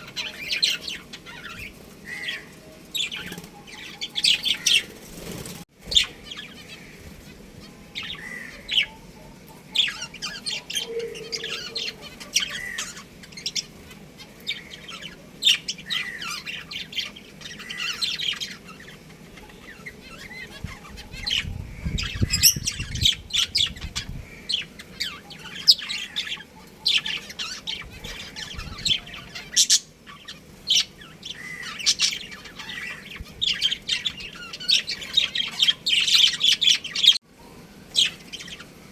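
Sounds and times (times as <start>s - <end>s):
budgerigars chirping: 0.0s - 37.2s, 37.9s - 38.8s.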